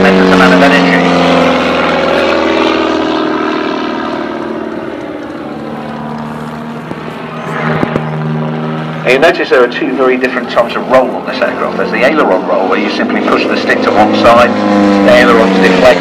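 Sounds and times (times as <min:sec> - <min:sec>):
propeller plane engine: 0:00.0 - 0:16.0.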